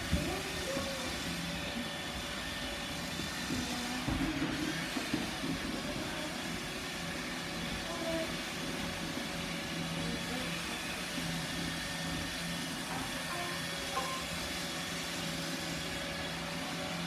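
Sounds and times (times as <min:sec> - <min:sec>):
robot vacuum motor hum: 0:00.0 - 0:17.0.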